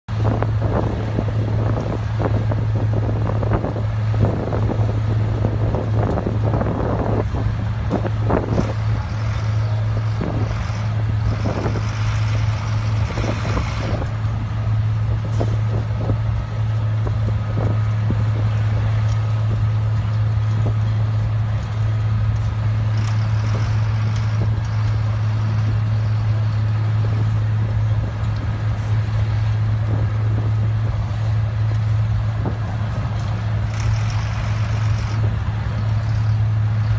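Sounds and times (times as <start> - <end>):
low engine drone: 0.0 - 36.9.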